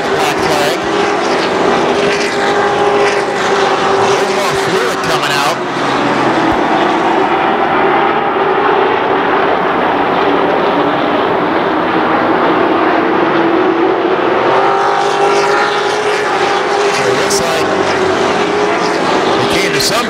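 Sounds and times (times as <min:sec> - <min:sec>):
race truck engines droning: 0:00.0 - 0:20.0.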